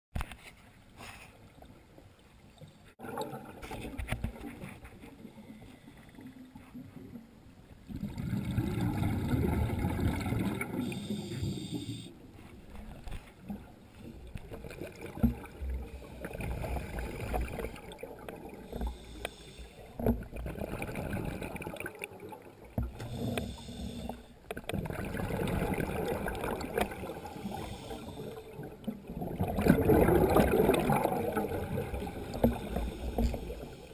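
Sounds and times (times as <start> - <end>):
exhaled air bubbling underwater: 5.2 - 33.9.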